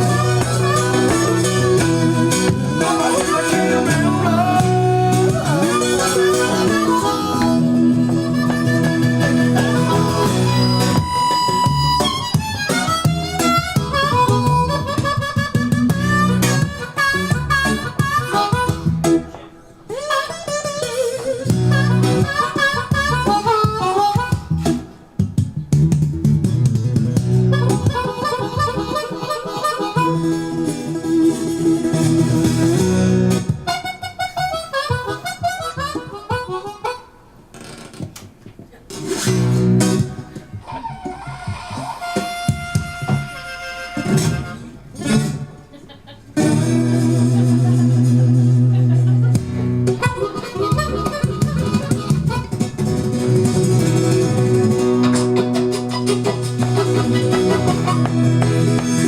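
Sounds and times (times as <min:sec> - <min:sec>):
picked acoustic guitar: 0:00.0 - 0:37.5, 0:38.7 - 0:59.0
blues harmonica bending notes: 0:00.0 - 0:37.8, 0:38.9 - 0:45.7, 0:46.4 - 0:59.0.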